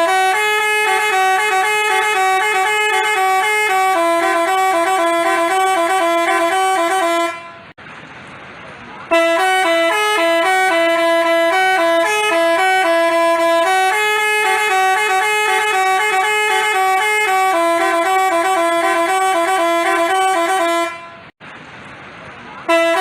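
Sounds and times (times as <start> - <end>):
musical bus horn playing a tune: 0.0 - 7.8, 9.1 - 21.4, 22.7 - 23.0.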